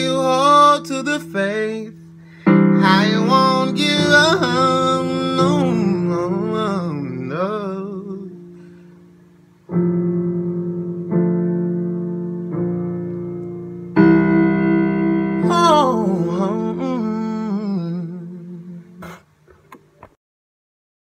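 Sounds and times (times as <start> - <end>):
keyboard chords: 0.0 - 19.2.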